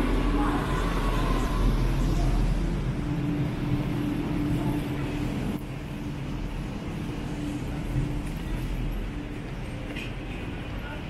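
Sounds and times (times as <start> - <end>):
low rumble and hum: 0.0 - 10.9.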